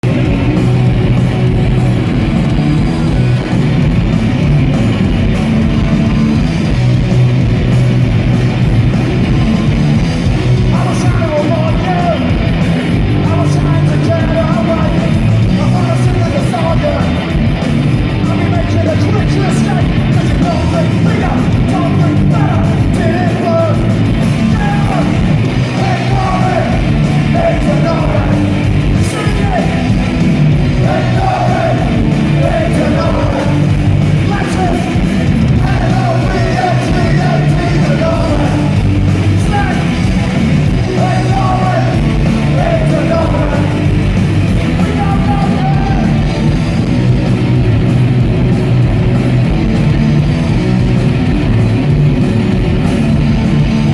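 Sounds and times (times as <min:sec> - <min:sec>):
loud rock music: 0:00.0 - 0:53.9.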